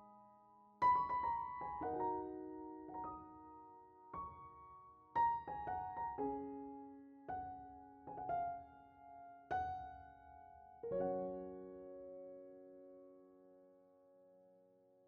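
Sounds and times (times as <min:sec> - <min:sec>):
slow piano chords: 0:00.0 - 0:14.3.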